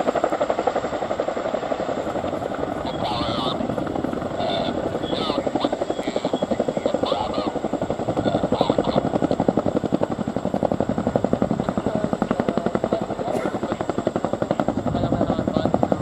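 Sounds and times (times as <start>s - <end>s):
helicopter rotors thumping: 0.0s - 16.0s
helicopter turbine engines running: 0.0s - 16.0s.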